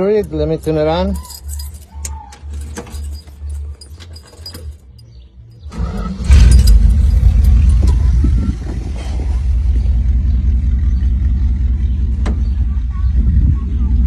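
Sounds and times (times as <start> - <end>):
car engine starting and idling: 2.4 - 14.0.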